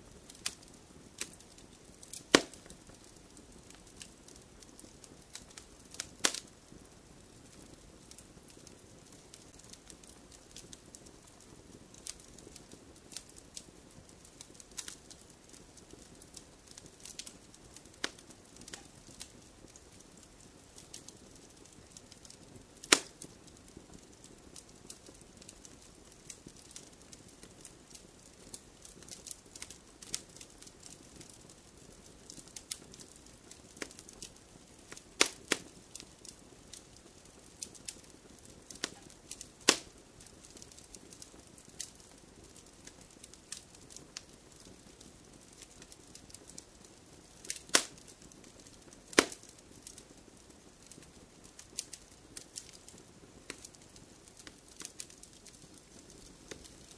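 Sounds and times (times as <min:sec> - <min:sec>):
campfire wood crackling: 0:00.0 - 0:56.9
low steady fire hiss: 0:00.0 - 0:56.9
loud fire pops: 0:00.1 - 0:46.7, 0:47.4 - 0:56.9.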